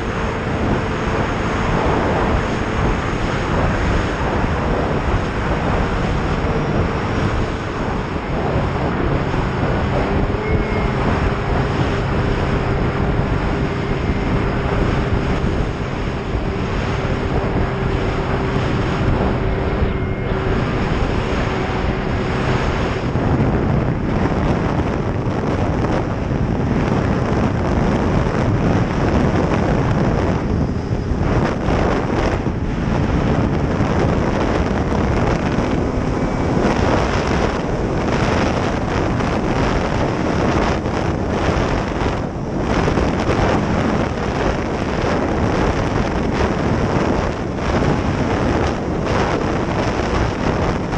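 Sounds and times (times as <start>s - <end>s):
snowmobile engine running: 0.0s - 50.9s
wind buffeting microphone: 0.0s - 50.9s.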